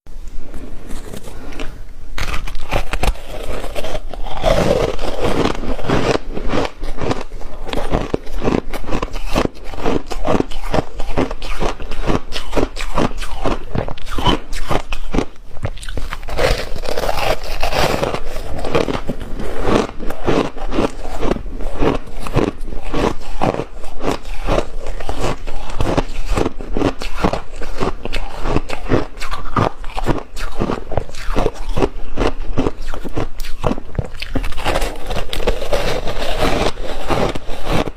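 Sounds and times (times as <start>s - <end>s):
crunching shaved ice: 2.2s - 37.9s.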